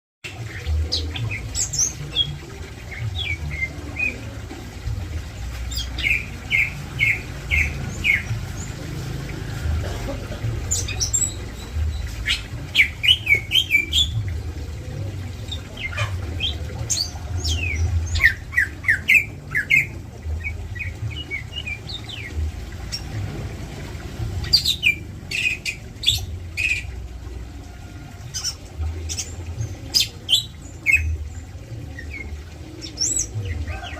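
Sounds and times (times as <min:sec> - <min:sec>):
birds chirping and squawking: 0:00.3 - 0:23.7, 0:24.3 - 0:27.1, 0:28.2 - 0:33.9.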